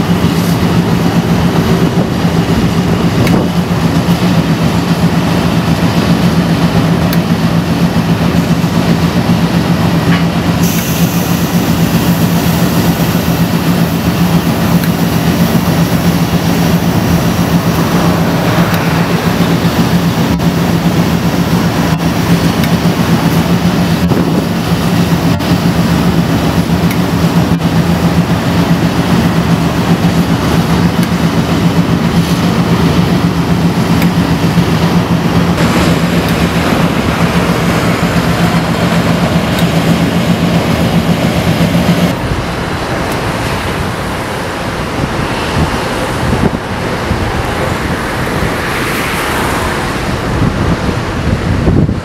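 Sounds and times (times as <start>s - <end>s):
diesel locomotive engine drone: 0.0s - 52.0s
wind blowing: 0.0s - 52.0s.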